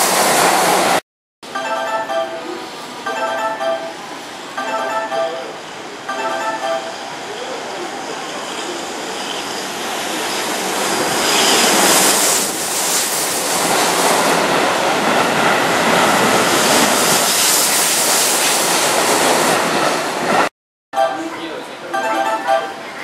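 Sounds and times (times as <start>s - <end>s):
train passing on rails: 0.0s - 1.0s, 1.6s - 23.0s.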